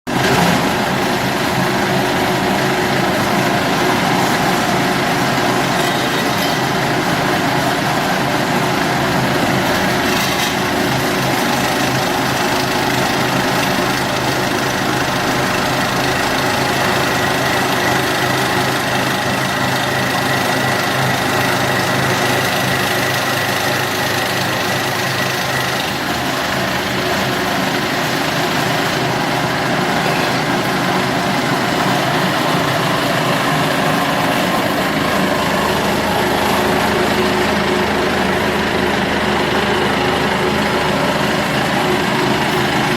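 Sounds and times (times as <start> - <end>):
machine motor hum: 0.1 - 42.9.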